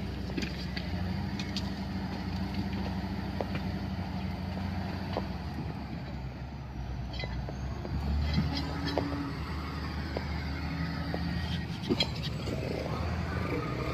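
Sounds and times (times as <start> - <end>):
construction machine engine running: 0.0 - 13.9.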